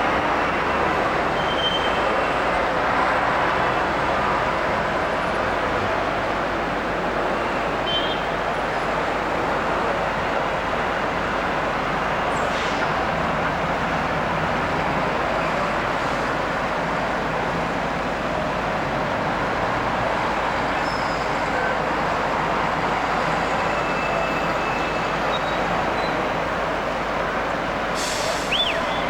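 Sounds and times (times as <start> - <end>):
road traffic noise: 0.0 - 29.0.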